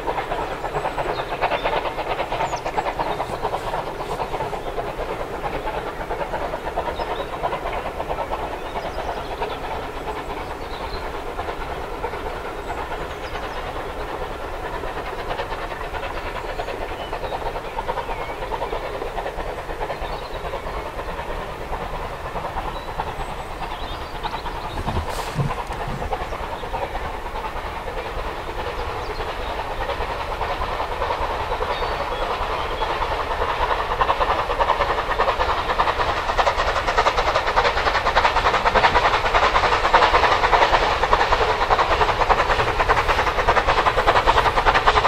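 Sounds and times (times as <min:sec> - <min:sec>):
steam locomotive chuffing: 0:00.0 - 0:45.0.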